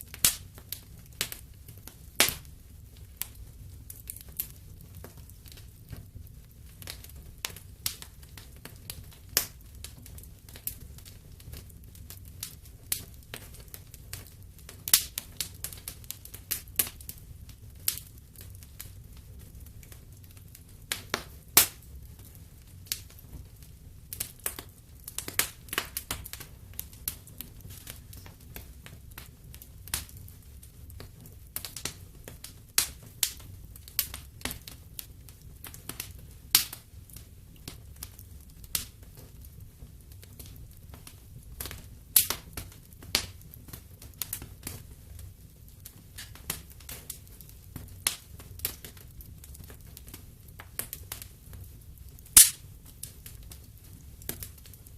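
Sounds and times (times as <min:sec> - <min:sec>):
low rumble of flames: 0:00.0 - 0:54.9
wood fire crackling and popping: 0:00.0 - 0:54.9.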